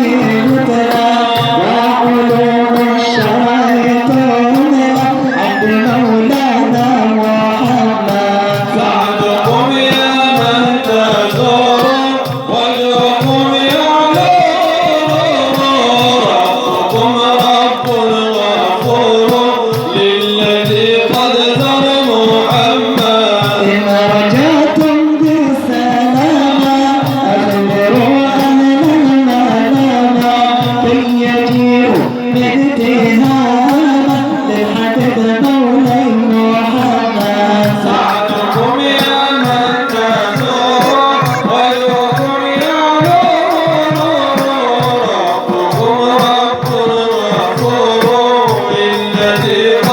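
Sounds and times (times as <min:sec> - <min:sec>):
hand drum beat: 0:00.0 - 0:49.9.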